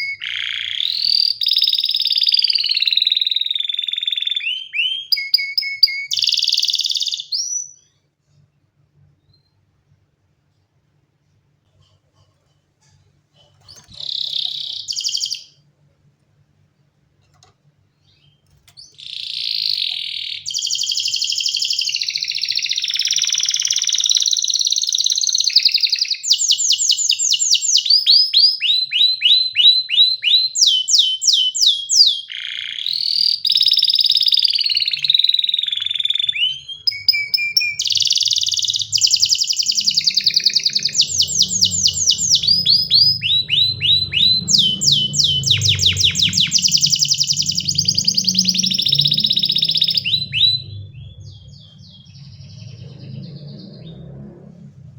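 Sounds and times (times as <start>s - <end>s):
canary singing: 0.0s - 8.0s, 13.4s - 15.7s, 17.4s - 54.7s.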